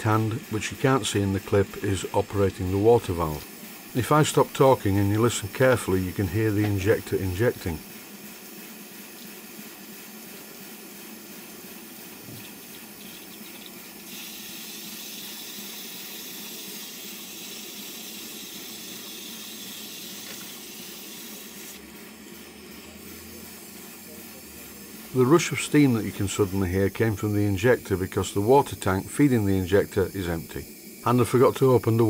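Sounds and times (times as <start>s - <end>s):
steam injector watery hiss: 0.0s - 32.0s.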